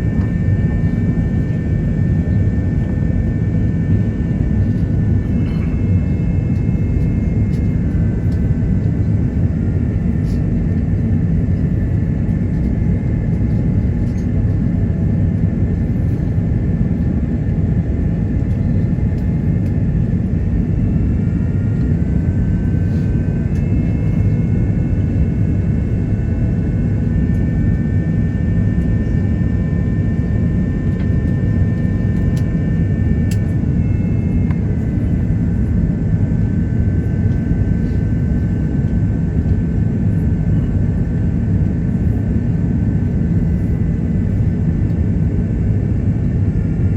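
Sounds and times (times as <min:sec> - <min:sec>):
airplane cabin roar: 0:00.0 - 0:46.9.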